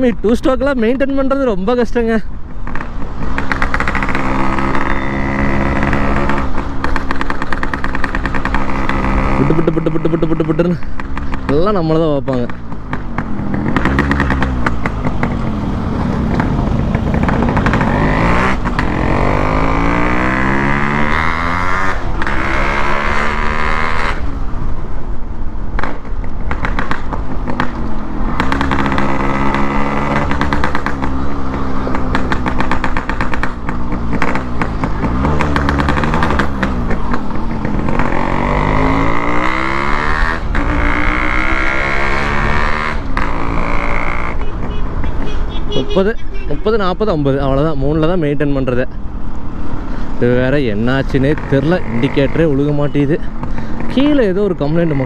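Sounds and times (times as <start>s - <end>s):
two-stroke motorcycle engine revving: 2.6s - 24.7s, 25.7s - 48.4s, 49.3s - 55.0s.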